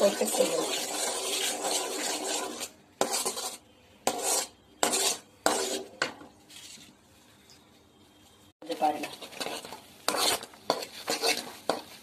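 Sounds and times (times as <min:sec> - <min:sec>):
metal spoon scraping a pan: 0:00.0 - 0:06.9, 0:08.6 - 0:12.0.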